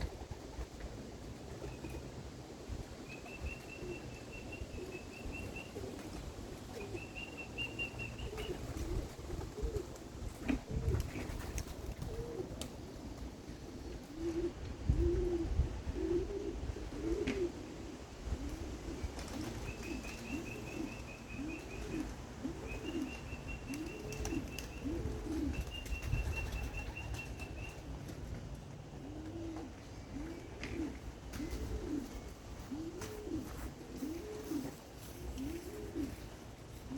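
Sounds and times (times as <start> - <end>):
pigeons cooing: 0.0 - 36.9.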